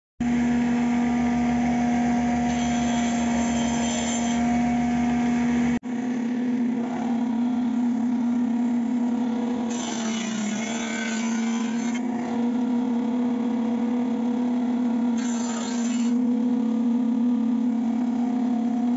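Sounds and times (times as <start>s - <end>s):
wood being cut by machine: 0.2s - 18.9s
woodworking machine humming: 0.2s - 18.9s.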